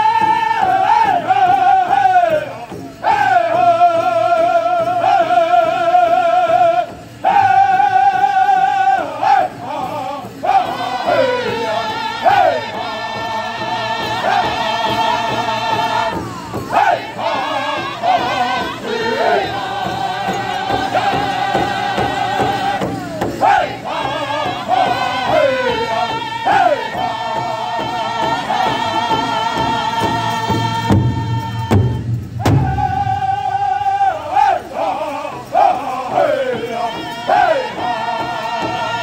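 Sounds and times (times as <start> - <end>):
group singing in unison: 0.0 - 39.0
large drum beaten with sticks: 0.0 - 39.0.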